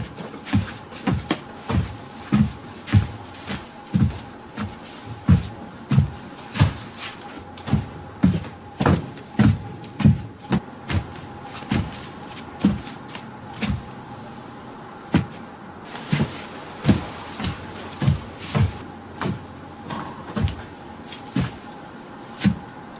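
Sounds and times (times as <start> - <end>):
footsteps on a hard floor: 0.0 - 13.9, 15.1 - 22.7
faint steady hum: 0.0 - 22.9.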